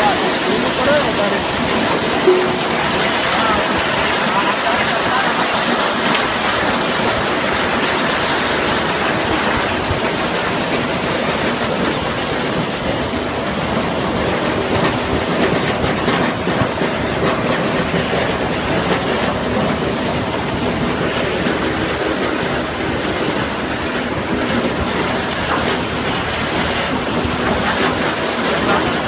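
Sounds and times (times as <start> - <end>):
harvester conveyors rattling: 0.0 - 29.0.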